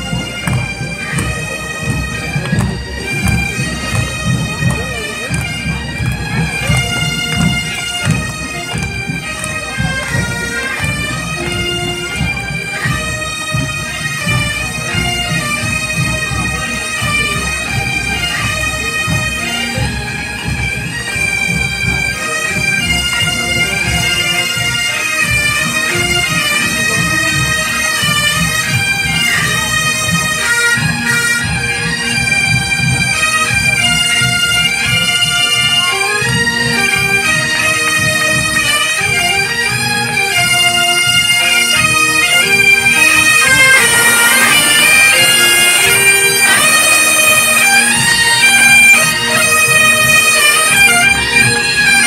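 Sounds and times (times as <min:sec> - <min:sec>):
bagpipe band playing march: 0:00.0 - 0:52.0
bagpipe drones: 0:00.0 - 0:52.0.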